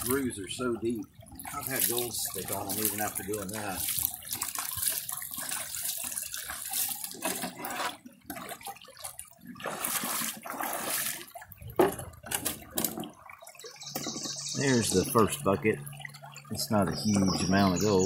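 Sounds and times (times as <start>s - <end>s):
water splashing and pouring: 0.0s - 18.0s.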